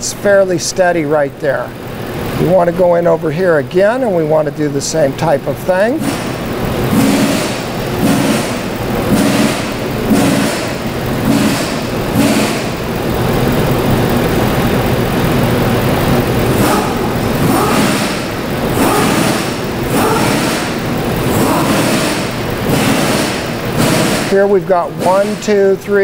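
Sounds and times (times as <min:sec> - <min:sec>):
mechanical running noise: 0:00.0 - 0:26.0.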